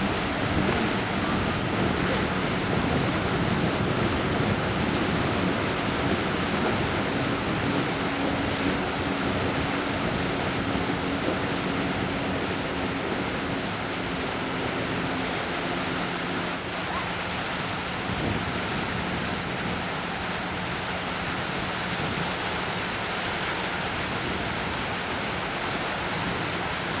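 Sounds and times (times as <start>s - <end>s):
shallow surf rushing: 0.0s - 27.0s
water churned by horses' legs: 0.0s - 27.0s.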